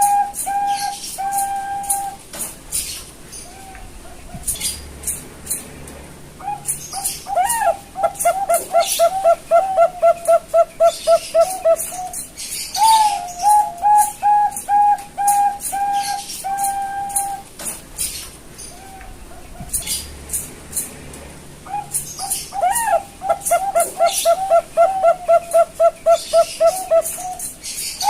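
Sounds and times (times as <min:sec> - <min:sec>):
dove cooing: 0:00.0 - 0:04.8, 0:06.4 - 0:20.1, 0:21.6 - 0:28.0.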